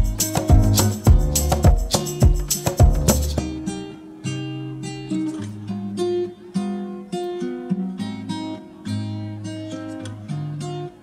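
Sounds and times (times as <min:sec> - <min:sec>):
acoustic guitar plucked and strummed: 0:00.0 - 0:11.0.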